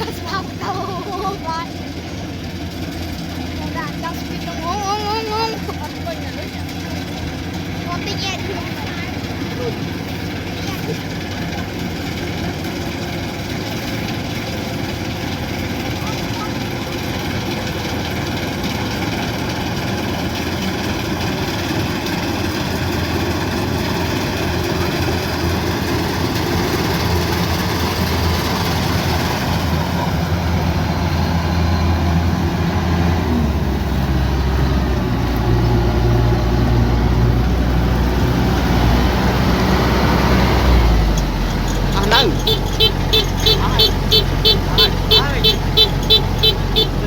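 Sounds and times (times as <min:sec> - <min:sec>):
combine harvester diesel engine running: 0:00.0 - 0:47.0.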